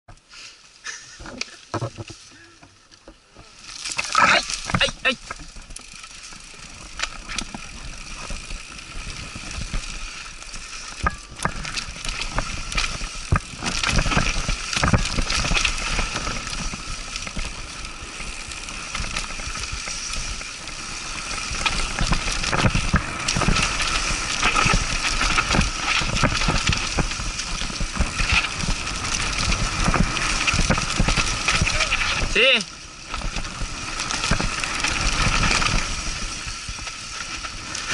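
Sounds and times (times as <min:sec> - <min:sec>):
bike tyres rolling over dirt: 0:00.1 - 0:37.9
bike clicks and rattles: 0:03.0 - 0:37.9.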